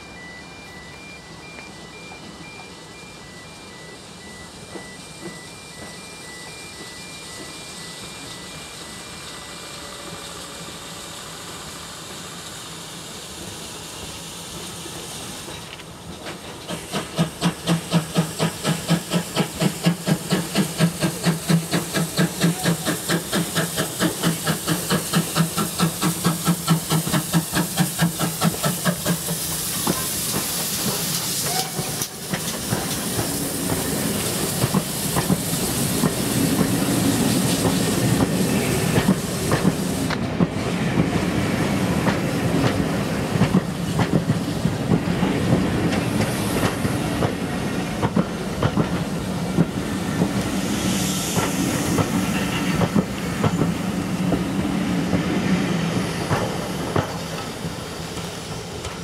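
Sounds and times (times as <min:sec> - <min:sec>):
steam locomotive exhaust chuffing: 0:01.4 - 0:59.0
steady hiss of steam: 0:02.2 - 0:59.0.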